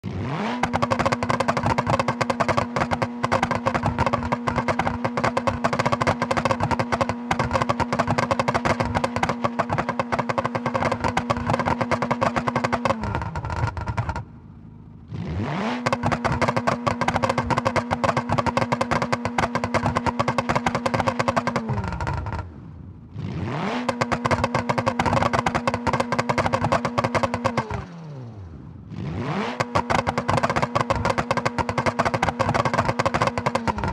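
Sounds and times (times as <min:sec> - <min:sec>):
rally car engine revving: 0:00.0 - 0:33.9
exhaust crackle: 0:00.1 - 0:33.9.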